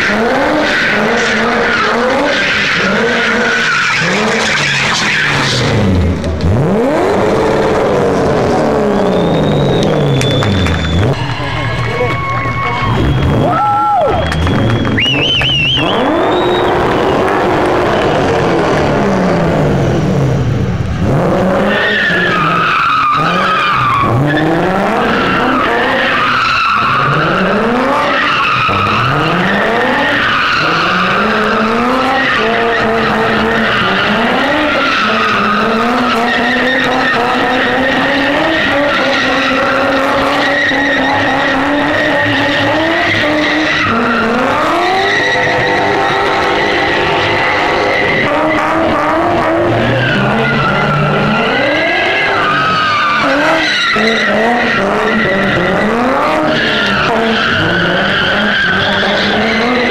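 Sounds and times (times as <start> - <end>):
car engine revving: 0.0 - 59.9
tyres spinning and skidding: 0.0 - 59.9.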